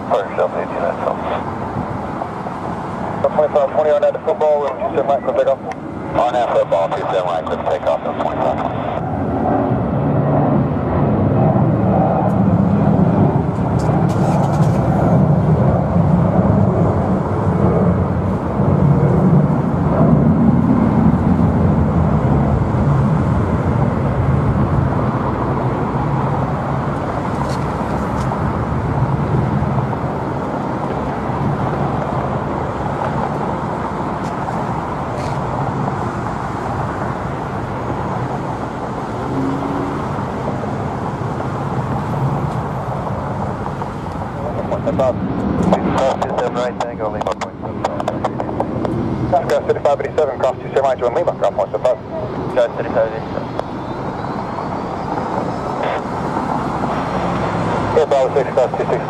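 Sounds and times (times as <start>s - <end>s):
jet engines rumbling: 0.0s - 59.0s.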